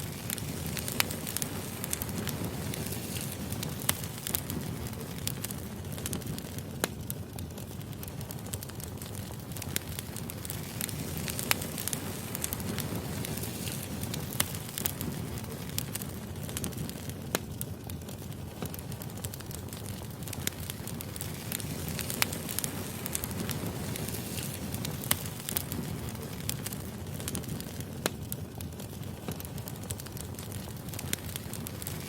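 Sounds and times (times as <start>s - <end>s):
fire crackles and pops: 0.0s - 32.0s
firewood burning rumble and hiss: 0.0s - 32.0s.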